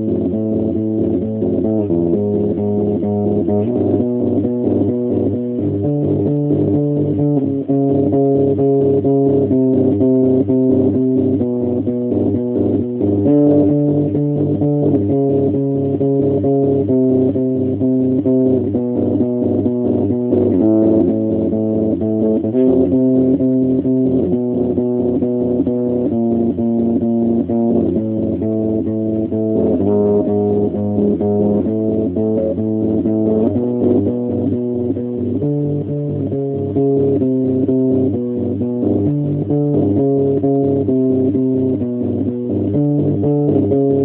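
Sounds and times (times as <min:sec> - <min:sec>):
electric bass guitar riff: 0:00.0 - 0:44.0.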